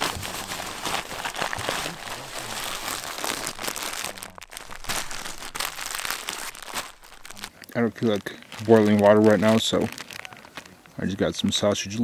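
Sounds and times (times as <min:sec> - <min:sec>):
rustling nylon sack and packaging: 0:00.0 - 0:12.0.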